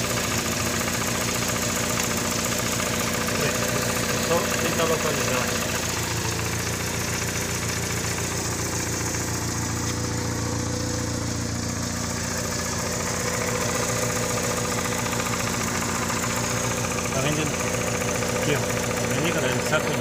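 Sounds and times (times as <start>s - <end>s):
car engine idling with tapping knock: 0.0s - 20.0s.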